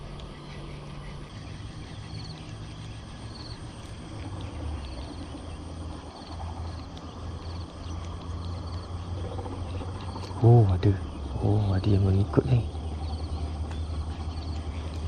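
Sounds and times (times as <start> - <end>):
insects chirping in trills: 0.0 - 15.0
low rumble: 0.0 - 15.0.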